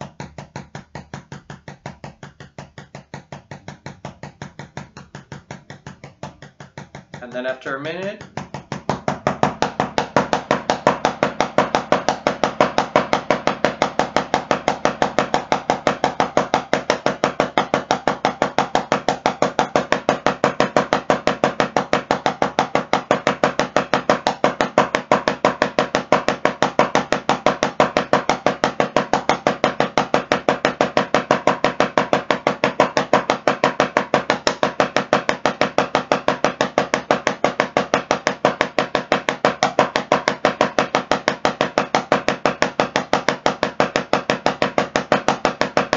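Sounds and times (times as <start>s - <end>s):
drumsticks tapping practice pad: 0.0s - 45.9s.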